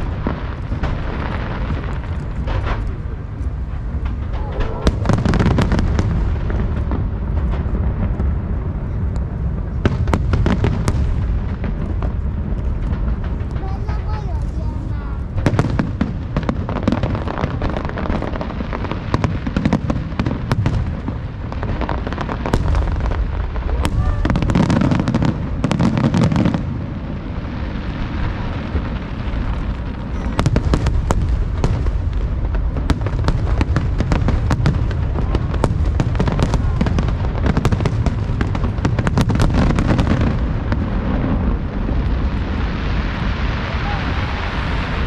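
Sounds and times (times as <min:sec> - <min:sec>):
deep fireworks booming: 0:00.0 - 0:45.0
fireworks bangs and pops: 0:00.0 - 0:45.0.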